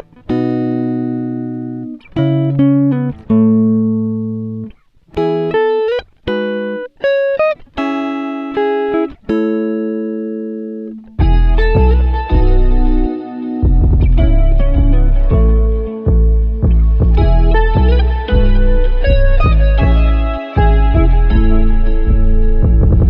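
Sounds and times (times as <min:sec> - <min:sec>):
plucked string instrumental music: 0:00.0 - 0:23.0.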